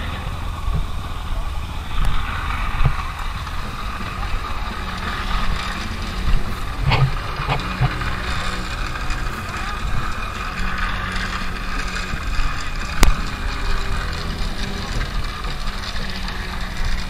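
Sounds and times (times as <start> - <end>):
steady hiss: 0.0 - 17.0
wind rumbling on microphone: 0.0 - 17.0.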